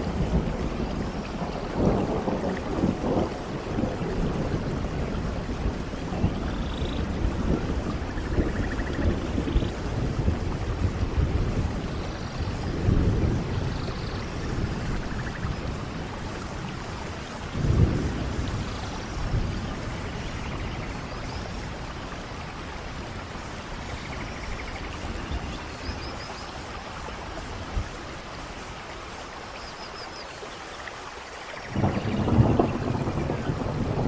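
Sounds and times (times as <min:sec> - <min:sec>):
thunder rumbling: 0:00.0 - 0:26.0, 0:31.7 - 0:34.0
steady rain: 0:00.0 - 0:34.0.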